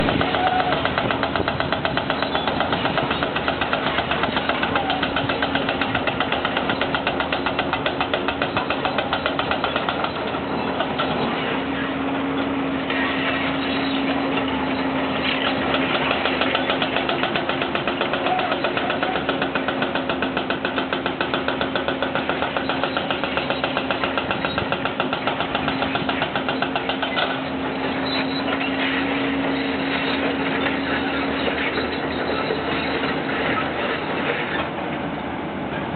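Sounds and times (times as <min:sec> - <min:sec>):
heavy machinery engine pulsing: 0:00.0 - 0:35.9.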